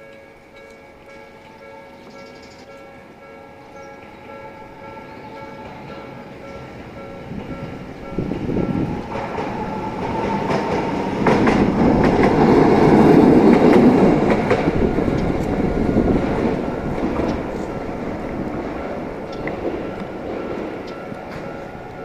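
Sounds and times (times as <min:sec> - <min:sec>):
tram running noise: 0:00.0 - 0:22.0.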